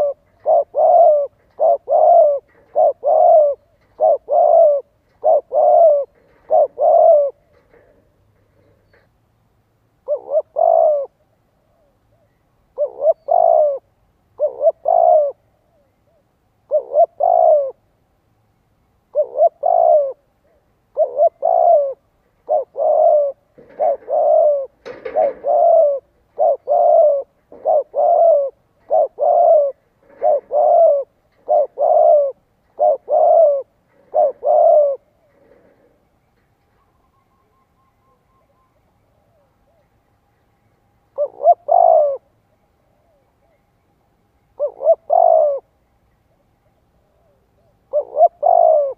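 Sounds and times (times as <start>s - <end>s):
dove cooing: 0.0s - 9.1s, 10.0s - 17.9s, 19.1s - 39.9s, 41.1s - 43.6s, 44.5s - 48.9s.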